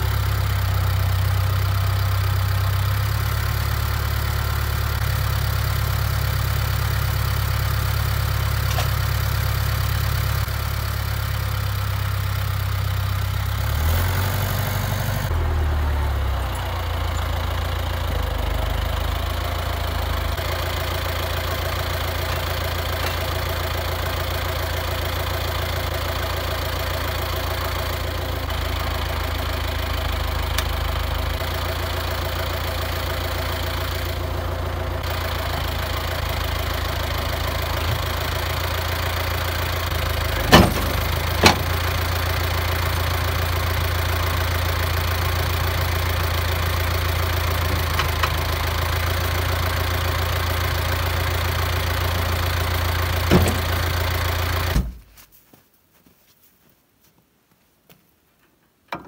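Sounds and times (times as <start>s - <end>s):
tractor diesel engine idling: 0.0s - 55.1s.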